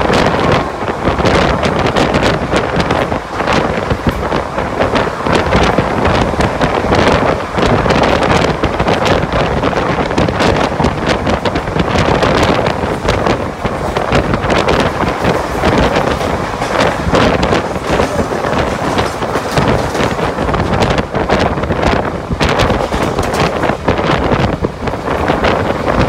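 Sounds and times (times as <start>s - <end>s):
train rumble: 0.0s - 26.0s
wheels clattering on rails: 0.0s - 26.0s
wind buffeting microphone: 0.0s - 26.0s.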